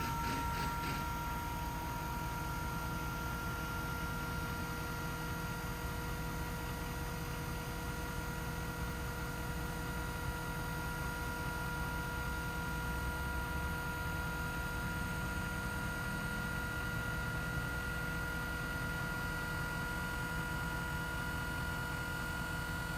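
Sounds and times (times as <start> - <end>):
crane pump motor whine: 0.0 - 22.9.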